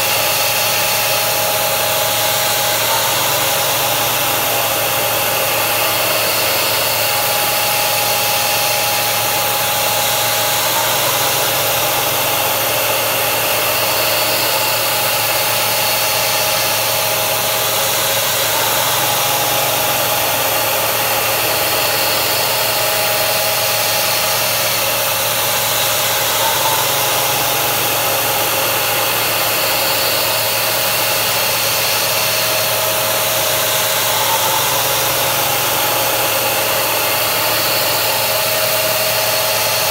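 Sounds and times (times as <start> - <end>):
milling machine cutting: 0.0 - 39.9
mist coolant sprayer hissing: 0.0 - 39.9
steady machine tones: 0.0 - 39.9.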